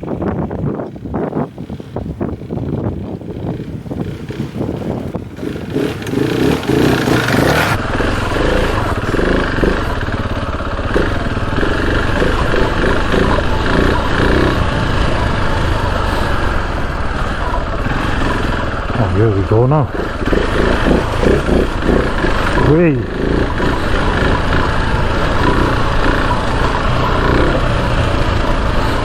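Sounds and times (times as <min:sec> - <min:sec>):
motorcycle engine under throttle: 0:00.0 - 0:29.0.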